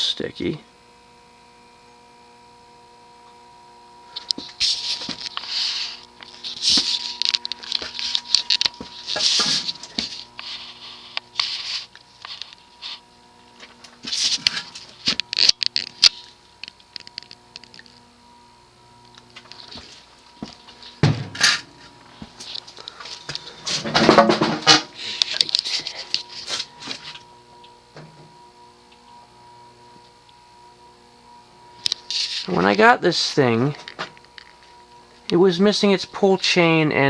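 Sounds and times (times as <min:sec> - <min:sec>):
ceiling fan motor humming: 0:00.0 - 0:37.0.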